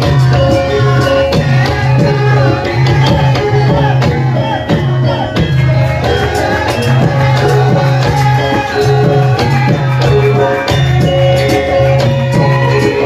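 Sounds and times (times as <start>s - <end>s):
hand drum beat: 0.0s - 13.0s
metallophone notes: 0.0s - 13.0s
person singing: 0.0s - 13.0s.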